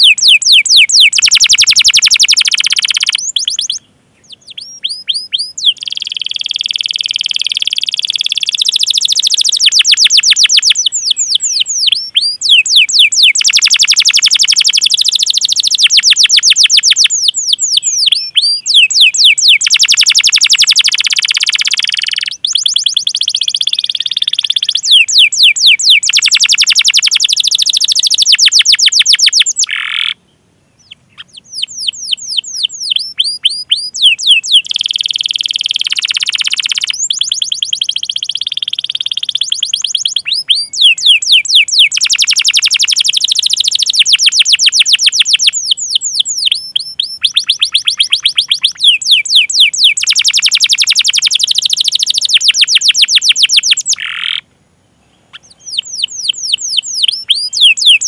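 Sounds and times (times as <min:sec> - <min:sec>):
canary singing trills: 0:00.0 - 0:54.4, 0:55.2 - 0:58.0.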